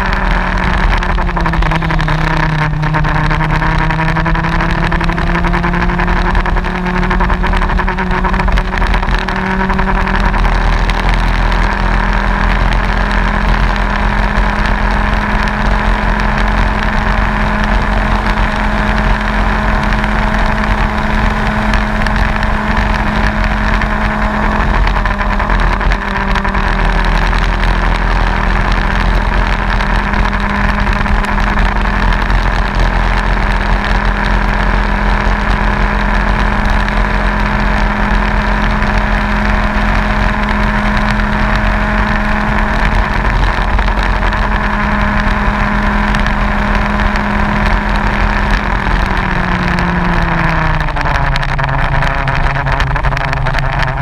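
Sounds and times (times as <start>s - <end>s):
kart engine running hard: 0.0s - 54.0s
wind and tyre noise: 0.0s - 54.0s.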